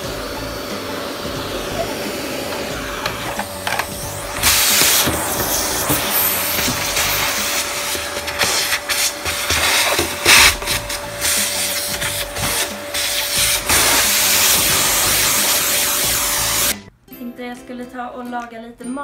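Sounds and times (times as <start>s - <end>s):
vacuum cleaner motor whine: 0.0s - 16.8s.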